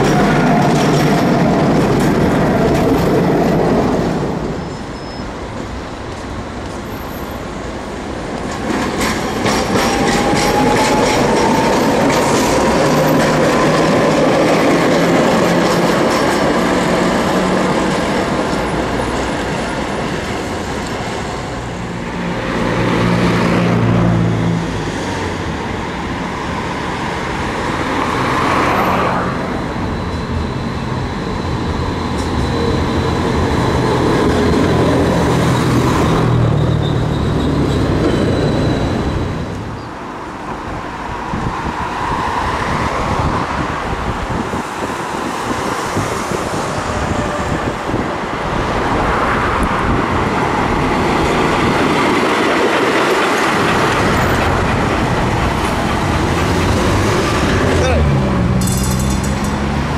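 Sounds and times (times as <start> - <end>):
road traffic passing: 0.0 - 59.9
tram rumbling on rails: 0.0 - 59.9
tram whine rising in pitch: 0.0 - 59.9.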